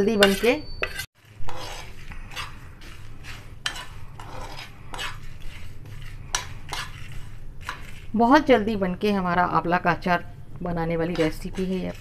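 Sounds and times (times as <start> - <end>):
steel spoon scraping spices in pan: 0.0 - 9.4, 10.8 - 12.0.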